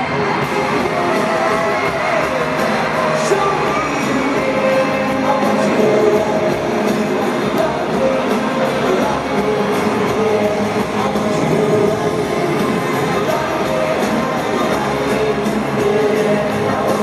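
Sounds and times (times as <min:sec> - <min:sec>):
crowd singing and cheering: 0:00.0 - 0:17.0
live pop band through pa: 0:00.0 - 0:17.0.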